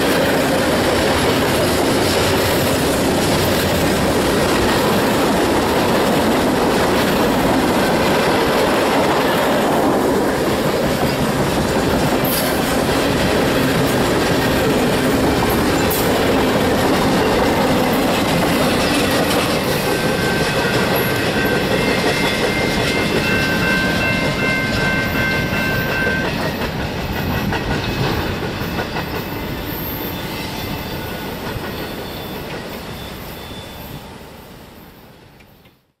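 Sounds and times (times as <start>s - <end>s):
train wheels clacking: 0.0s - 33.8s.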